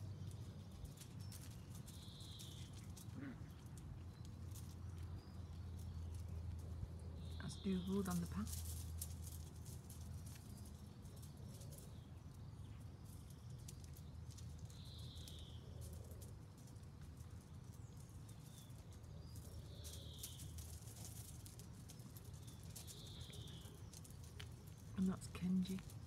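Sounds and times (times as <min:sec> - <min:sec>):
bird chirp: 0:00.0 - 0:08.6, 0:10.3 - 0:26.0
faint crackles and clicks: 0:00.0 - 0:26.0.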